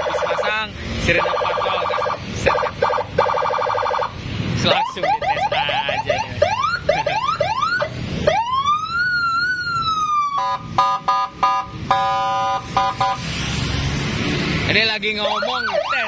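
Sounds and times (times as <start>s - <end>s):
electronic siren whooping and wailing: 0.0s - 13.4s, 15.2s - 16.0s.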